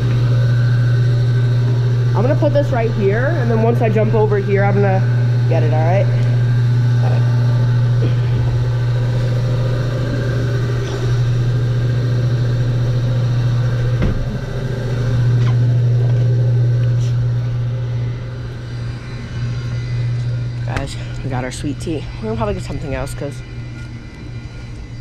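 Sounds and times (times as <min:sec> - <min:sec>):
refrigeration unit humming: 0:00.0 - 0:25.0.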